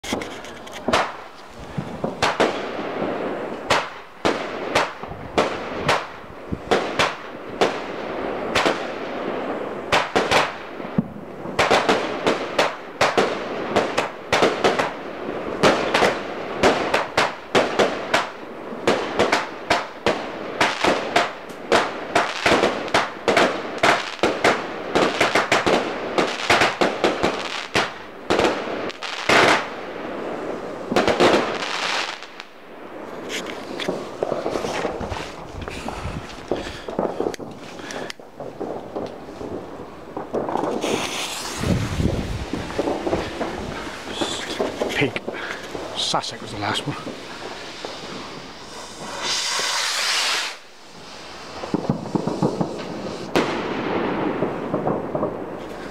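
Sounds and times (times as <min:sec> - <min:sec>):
fireworks banging and crackling: 0:00.0 - 0:55.9.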